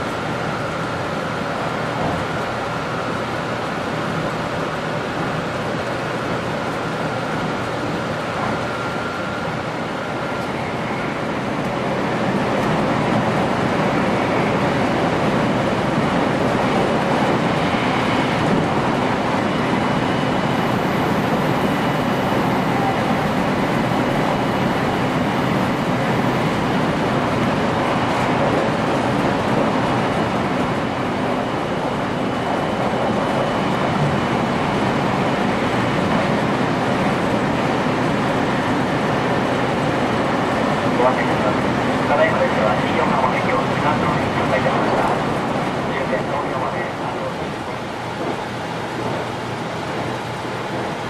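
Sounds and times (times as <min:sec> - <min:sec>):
train rushing hum: 0:00.0 - 0:51.0.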